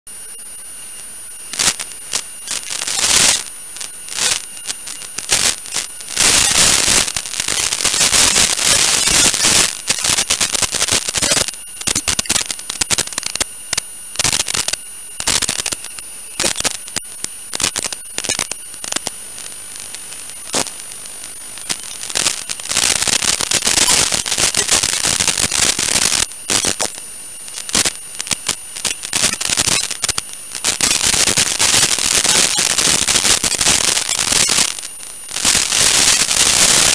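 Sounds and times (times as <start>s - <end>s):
radio static hiss and crackle: 0.1s - 36.9s.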